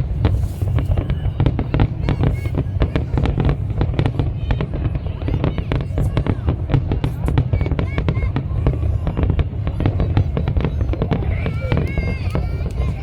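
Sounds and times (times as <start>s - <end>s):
fireworks bangs and crackles: 0.0s - 13.0s
fireworks whistles: 0.0s - 13.0s.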